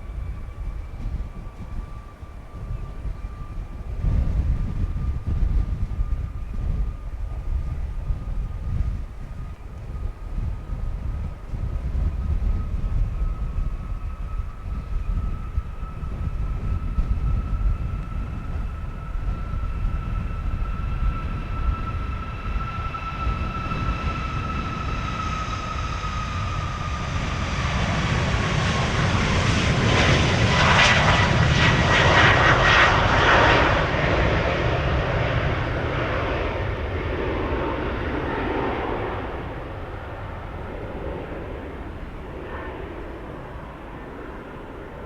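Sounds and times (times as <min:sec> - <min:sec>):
jet airliner passing by: 0:00.0 - 0:45.0
wind rumble on microphone: 0:00.0 - 0:45.0.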